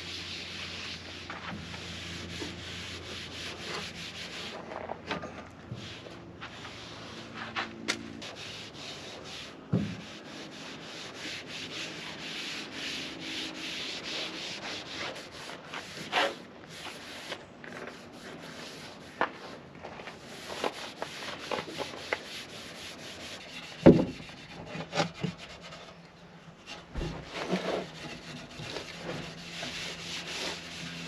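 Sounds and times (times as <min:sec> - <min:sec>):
hand scrubbing hard surface: 0:00.0 - 0:05.0, 0:05.7 - 0:25.8, 0:26.9 - 0:31.0.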